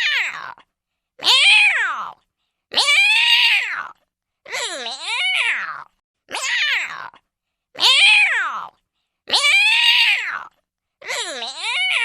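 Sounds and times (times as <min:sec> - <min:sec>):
cartoon cat meowing: 0:00.0 - 0:00.6, 0:01.2 - 0:04.0, 0:04.6 - 0:07.2, 0:07.8 - 0:08.7, 0:09.3 - 0:12.0.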